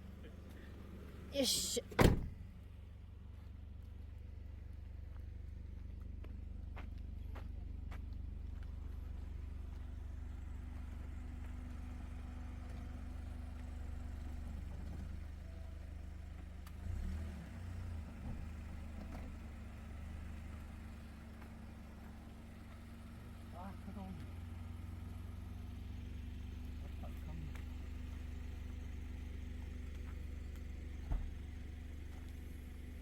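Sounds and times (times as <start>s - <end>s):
car engine idling: 0.0s - 16.9s, 17.9s - 33.0s.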